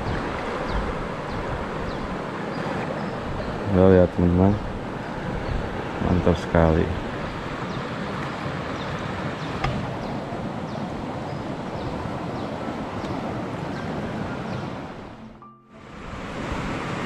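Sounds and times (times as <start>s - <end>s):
river water rushing: 0.0s - 17.0s
wind on microphone: 0.0s - 17.0s.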